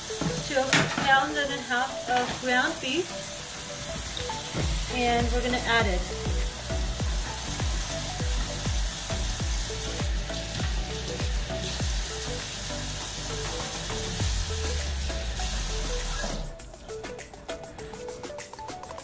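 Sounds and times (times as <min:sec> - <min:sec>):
background music with beat: 0:00.0 - 0:19.0.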